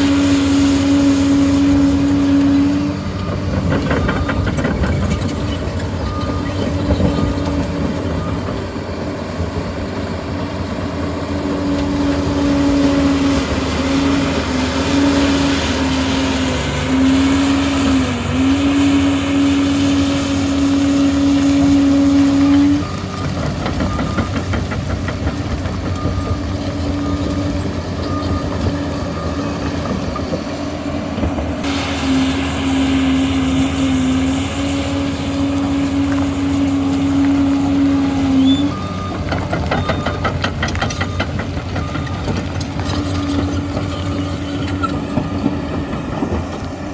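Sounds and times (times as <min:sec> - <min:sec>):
crawler dozer engine running: 0:00.0 - 0:46.9.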